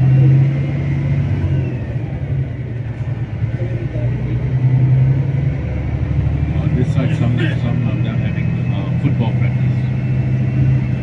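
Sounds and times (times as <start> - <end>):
vehicle engine and road hum: 0.0 - 11.0.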